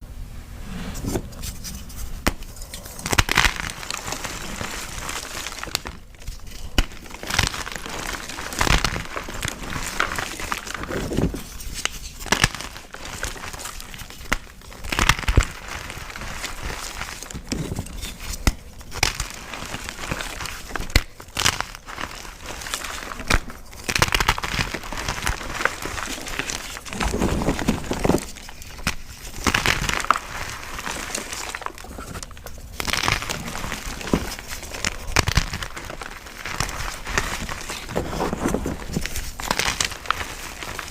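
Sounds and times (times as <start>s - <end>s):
chalk blocks crackling and crunching: 1.3s - 40.9s.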